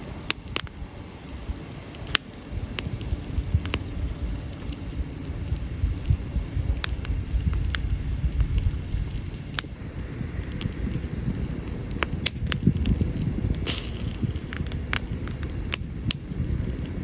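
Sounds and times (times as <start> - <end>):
campfire crackling: 0.0 - 17.0
fire pops: 0.0 - 17.0
low rumble of fire: 0.0 - 17.0.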